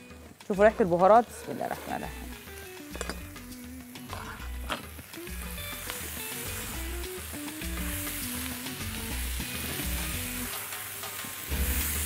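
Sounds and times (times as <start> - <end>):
background music: 0.0 - 12.0
food sizzling in frying pan: 0.0 - 12.0.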